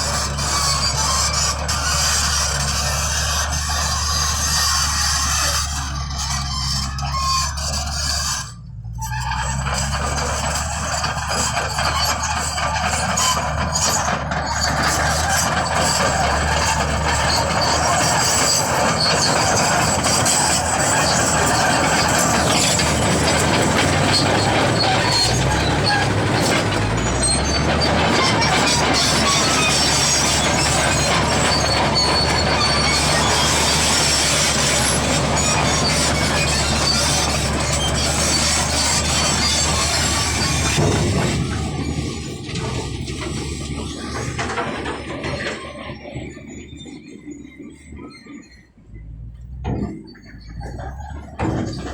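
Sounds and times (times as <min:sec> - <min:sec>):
bulldozer diesel engine: 0:00.0 - 0:51.9
crawler tracks clanking and squealing: 0:00.0 - 0:51.9.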